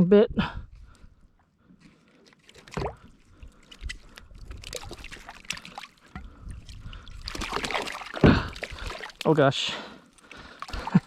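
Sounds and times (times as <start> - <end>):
water splashing against kayak: 2.1 - 11.0.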